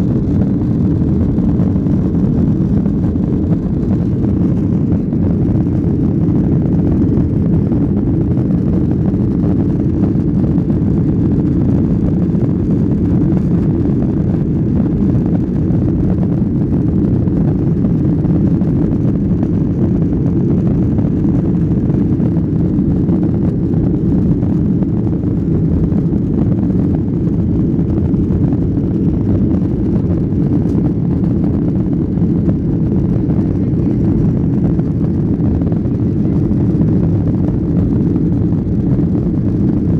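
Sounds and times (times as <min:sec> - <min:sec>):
jet engines rumbling: 0:00.0 - 0:39.9
rushing air in cabin: 0:00.0 - 0:39.9.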